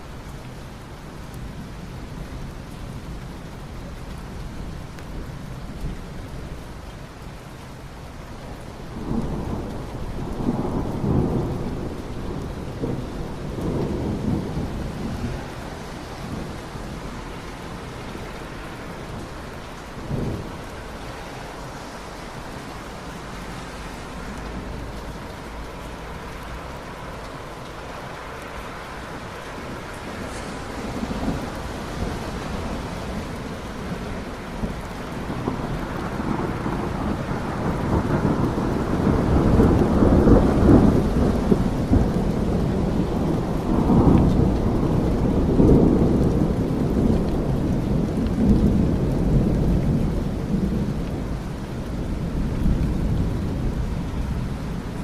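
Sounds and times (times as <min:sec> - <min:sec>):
rain falling: 0:00.0 - 0:55.0
thunder rolling: 0:08.9 - 0:27.8, 0:29.1 - 0:55.0.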